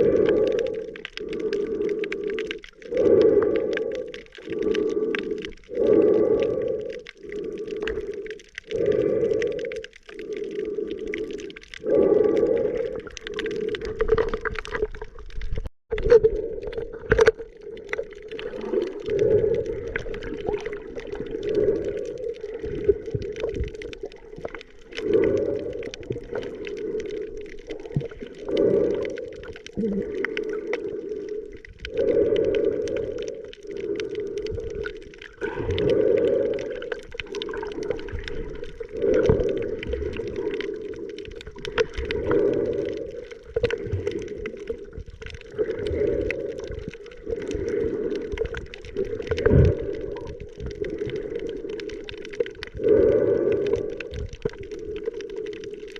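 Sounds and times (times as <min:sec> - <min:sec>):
muffled underwater sea sound: 0:00.0 - 0:55.9.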